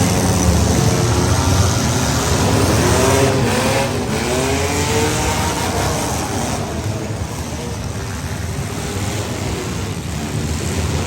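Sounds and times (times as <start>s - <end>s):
car engines revving: 0.0s - 11.0s
steady din of engine noise: 0.0s - 11.0s.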